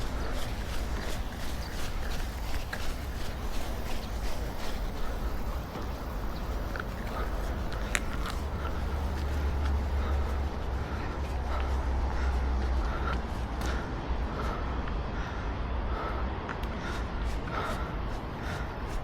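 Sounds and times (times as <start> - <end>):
running footsteps: 0.0 - 19.0
wind rumble on microphone: 0.0 - 19.0.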